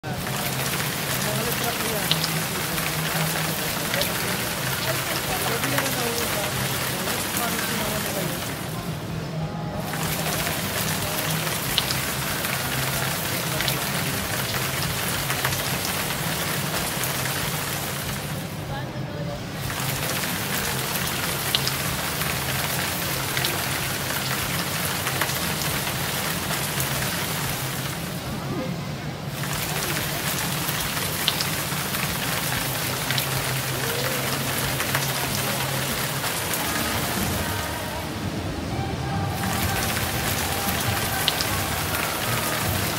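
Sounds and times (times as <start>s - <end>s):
water falling and splashing: 0.0s - 42.9s.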